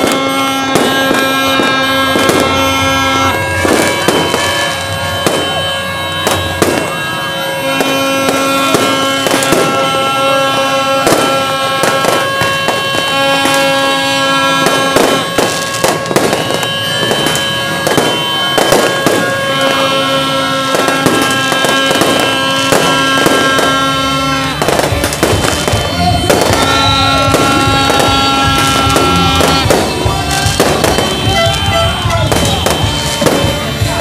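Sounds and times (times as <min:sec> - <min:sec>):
fireworks bursting and crackling: 0:00.0 - 0:34.0
music with long held notes: 0:00.0 - 0:34.0.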